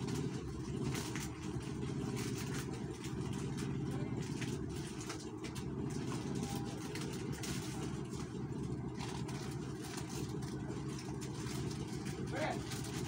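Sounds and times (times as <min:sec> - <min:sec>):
low machine hum: 0:00.0 - 0:13.0
rustling of plastic strips: 0:00.0 - 0:13.0.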